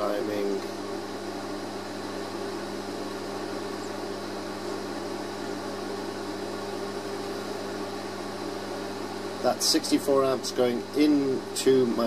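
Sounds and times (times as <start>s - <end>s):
equipment hum and hiss: 0.0s - 12.0s.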